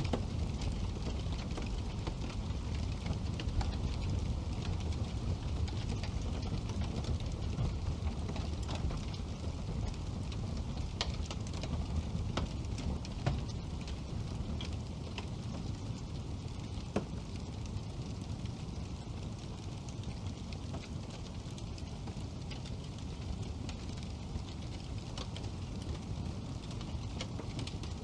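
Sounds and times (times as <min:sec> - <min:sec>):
fireplace flames: 0:00.0 - 0:28.0
wood crackling and popping: 0:00.0 - 0:28.0.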